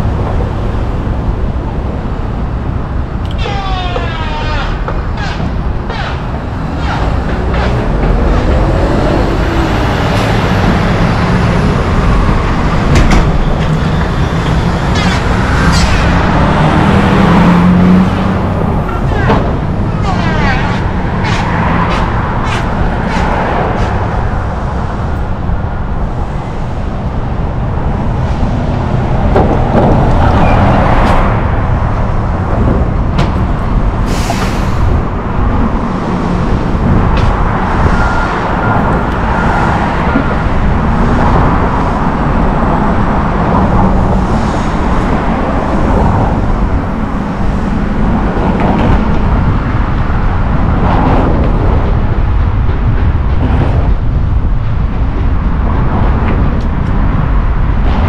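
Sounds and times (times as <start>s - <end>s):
cars and trucks passing: 0.0s - 58.0s.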